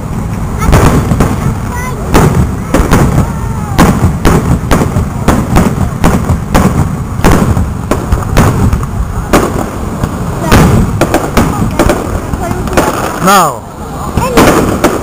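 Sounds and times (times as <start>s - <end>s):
continuous low rumble: 0.0s - 15.0s
firework shells bursting: 0.0s - 15.0s.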